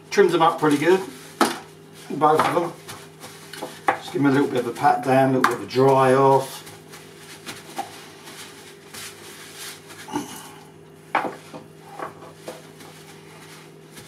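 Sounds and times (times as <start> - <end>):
paper towel rustling: 0.1 - 14.0.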